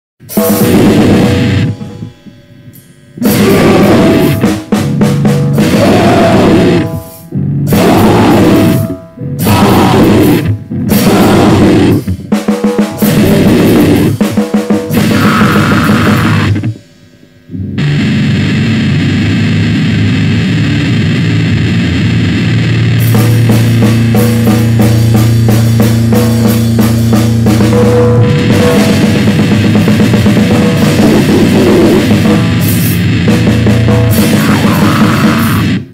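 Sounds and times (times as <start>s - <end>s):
harsh distorted drums and guitar: 0.2s - 35.9s
droning wall of distorted noise: 0.3s - 12.4s, 13.0s - 35.9s.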